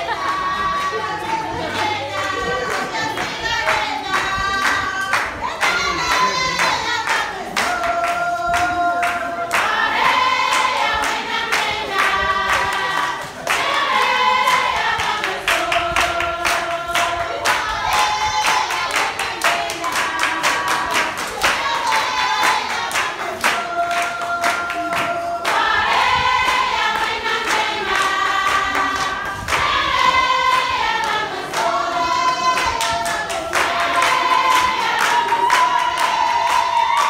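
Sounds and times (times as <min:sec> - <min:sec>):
rhythmic hand clapping: 0:00.0 - 0:37.0
women singing together: 0:00.0 - 0:37.0.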